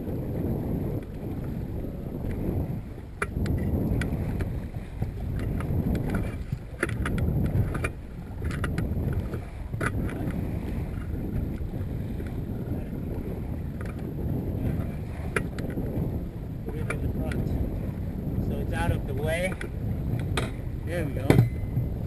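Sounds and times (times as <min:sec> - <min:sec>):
water slapping boat hull: 0:00.0 - 0:22.0
wind buffeting microphone: 0:00.0 - 0:22.0.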